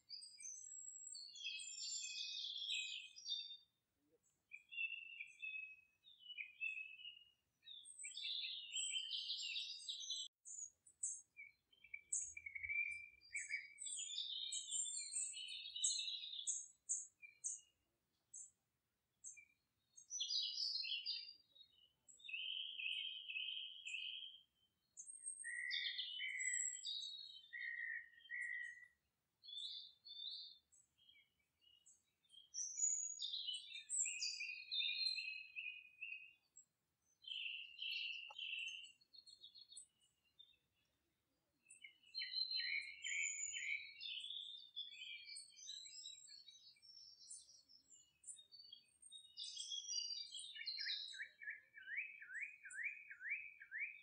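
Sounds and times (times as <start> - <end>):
birds chirping and singing: 0.1 - 3.6, 4.5 - 17.7, 19.2 - 40.9, 41.6 - 54.0.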